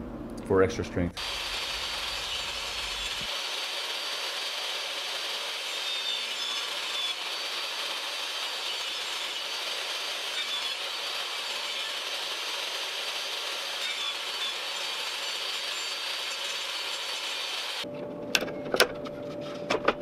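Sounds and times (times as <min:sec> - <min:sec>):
power tool cutting plywood: 0:01.2 - 0:17.8.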